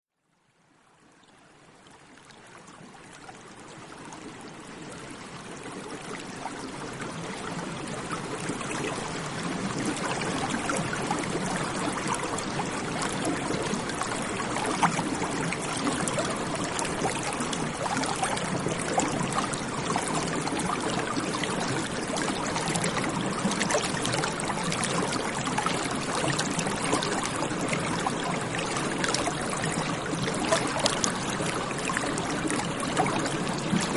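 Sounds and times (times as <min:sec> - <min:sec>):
stream water flowing: 0:00.4 - 0:33.9.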